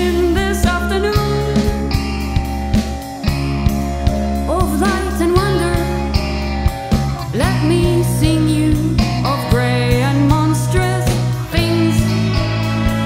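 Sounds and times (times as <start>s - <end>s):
bass: 0.0s - 13.0s
rock band playing: 0.0s - 13.0s.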